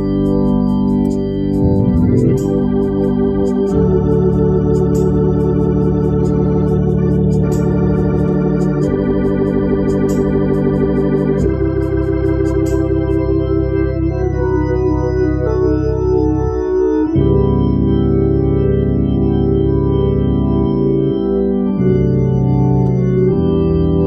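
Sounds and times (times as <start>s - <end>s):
organ chords: 0.0s - 24.0s
organ pedal bass notes: 0.0s - 24.0s.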